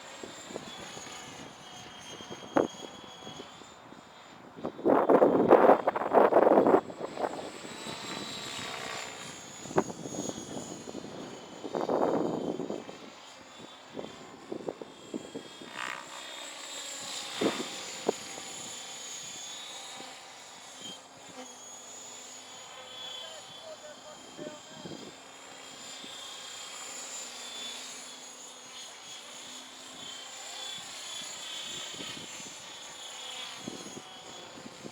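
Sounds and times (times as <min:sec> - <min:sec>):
rc helicopter high whine: 0:00.0 - 0:34.9.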